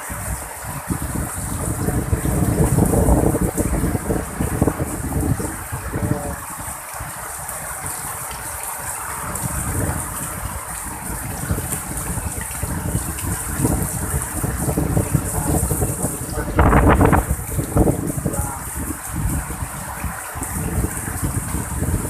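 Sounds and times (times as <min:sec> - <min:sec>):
heavy rain: 0:00.0 - 0:22.0
wind rumbling on microphone: 0:00.0 - 0:22.0.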